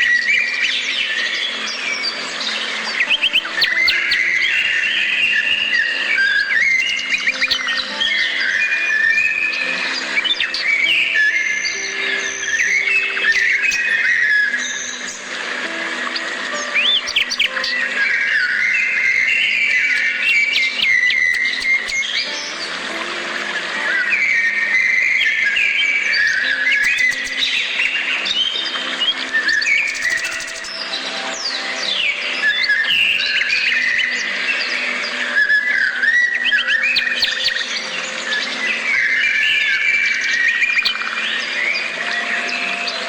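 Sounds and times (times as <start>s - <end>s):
birds singing: 0.0s - 43.0s.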